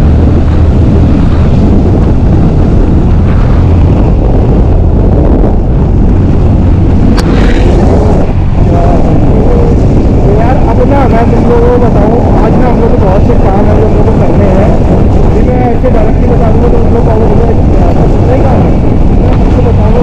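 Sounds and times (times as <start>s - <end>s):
motorcycle engine rumble: 0.0s - 20.0s
wind rushing on microphone: 0.0s - 20.0s.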